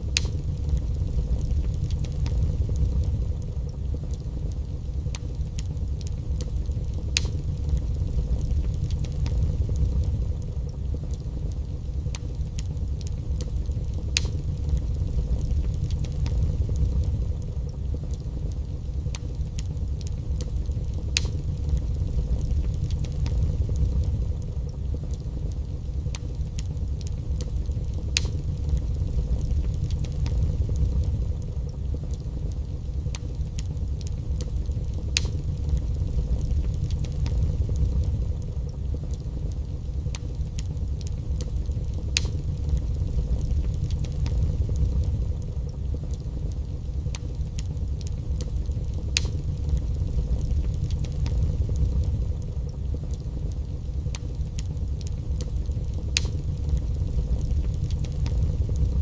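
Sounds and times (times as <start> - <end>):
fire rumbling in fireplace: 0.0 - 59.0
logs crackling and popping: 0.0 - 59.0.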